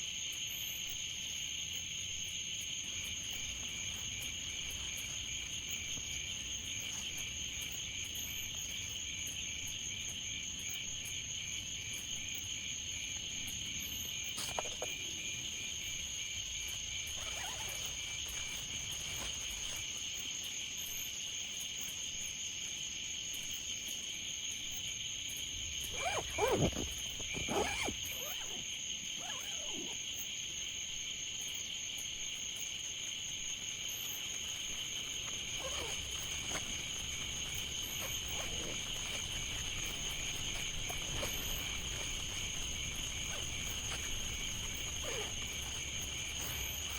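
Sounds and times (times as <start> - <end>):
crickets and insects trilling: 0.0 - 46.9.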